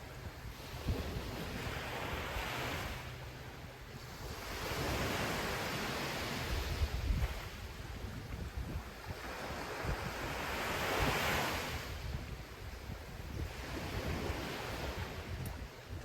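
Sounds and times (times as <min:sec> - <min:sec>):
ocean surf washing onto beach: 0:00.0 - 0:16.0
wind buffeting microphone: 0:00.0 - 0:16.0.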